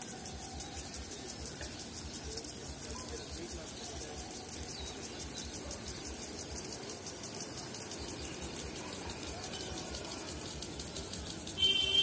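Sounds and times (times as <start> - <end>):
sprinklers spraying water: 0.0 - 12.0.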